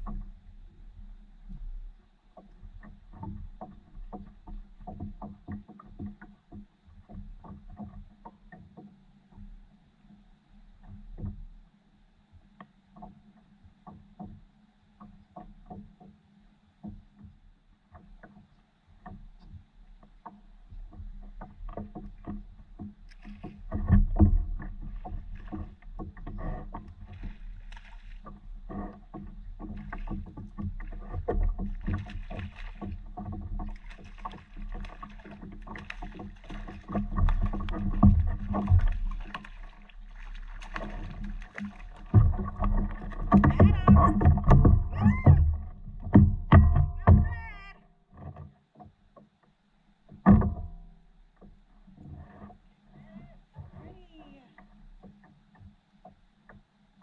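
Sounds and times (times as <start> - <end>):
water lapping against hull: 0.0 - 57.0.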